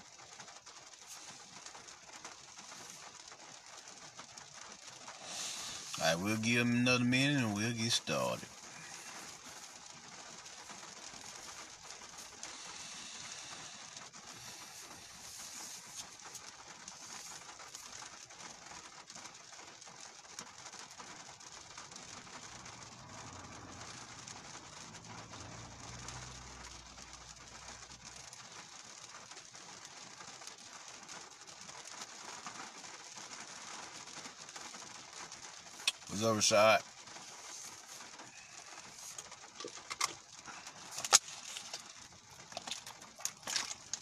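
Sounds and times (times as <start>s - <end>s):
rain patter on car: 0.0s - 44.0s.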